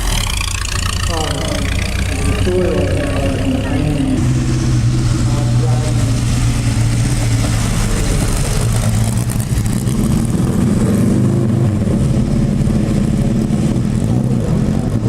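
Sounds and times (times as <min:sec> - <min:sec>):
racing car engine running: 0:00.0 - 0:15.0.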